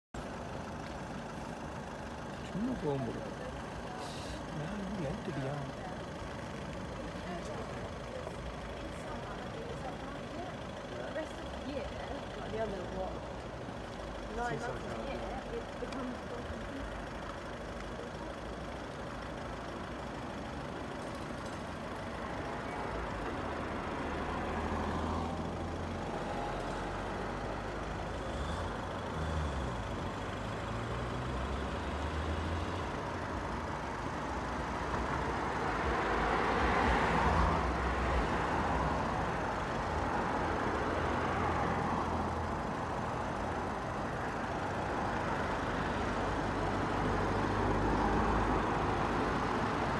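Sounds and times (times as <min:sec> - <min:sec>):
vehicle engine hum: 0:00.1 - 0:49.9.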